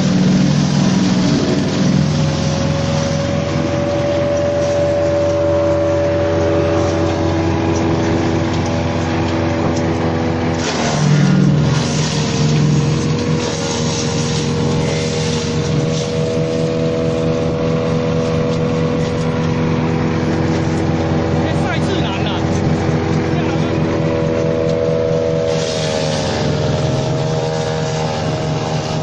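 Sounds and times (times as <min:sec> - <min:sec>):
branch shredder engine running: 0:00.0 - 0:29.0.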